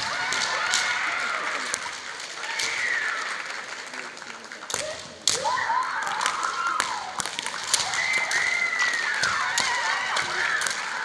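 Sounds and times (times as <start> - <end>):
bamboo swords clacking: 0.0 - 3.4, 4.6 - 11.0.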